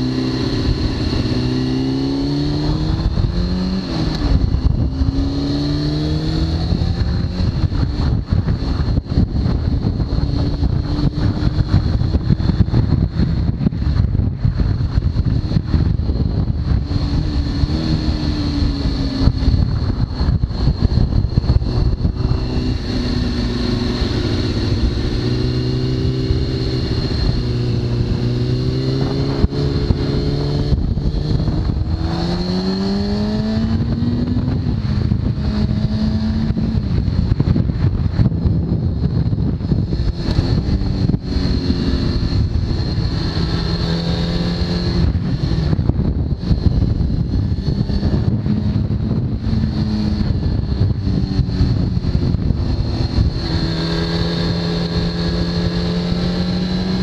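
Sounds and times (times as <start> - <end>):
motorcycle engine revving: 0.0 - 57.0
wind rush over microphone: 0.0 - 57.0.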